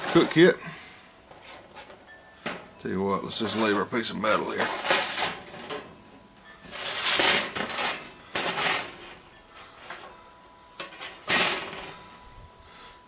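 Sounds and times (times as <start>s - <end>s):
metal scraping and sliding: 0.0s - 12.2s.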